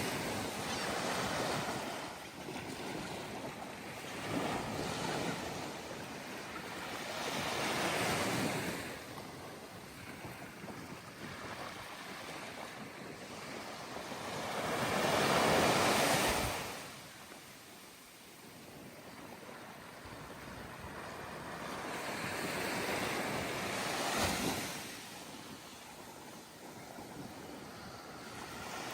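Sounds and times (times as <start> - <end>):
waves washing onto beach: 0.0 - 28.9.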